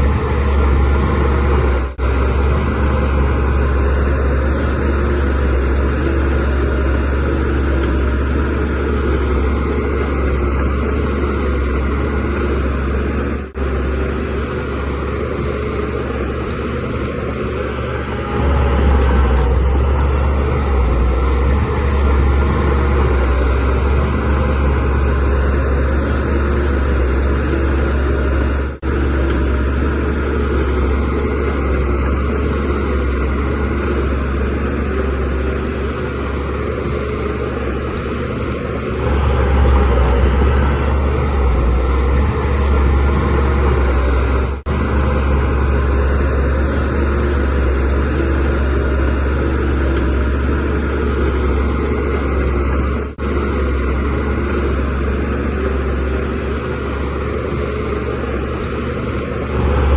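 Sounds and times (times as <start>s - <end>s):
bulldozer diesel engine rumbling: 0.0s - 59.9s.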